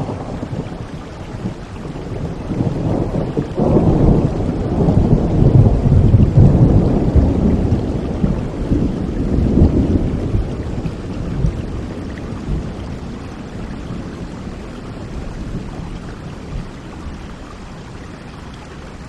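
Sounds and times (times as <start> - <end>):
rolling thunder: 0.0 - 17.0
rain: 0.0 - 19.0.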